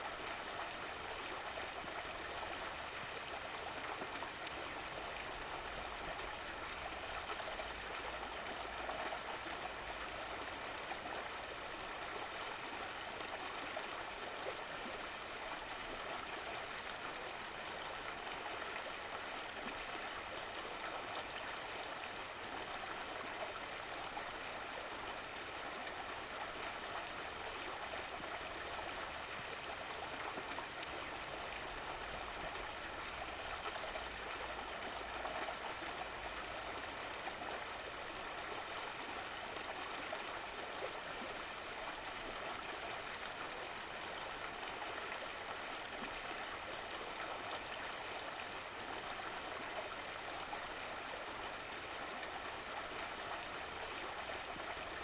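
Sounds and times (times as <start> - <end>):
stream water burbling: 0.0 - 55.0.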